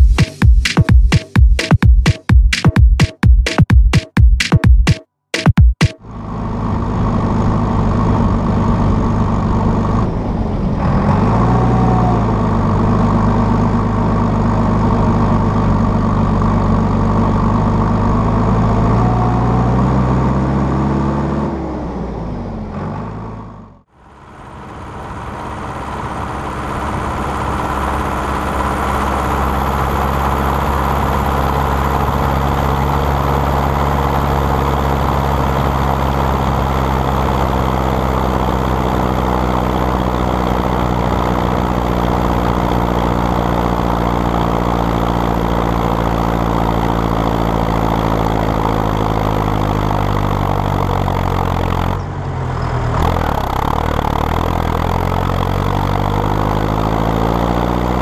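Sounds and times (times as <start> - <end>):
tractor diesel engine running: 0.0 - 1.8, 6.0 - 58.0
second tractor engine: 5.8 - 58.0.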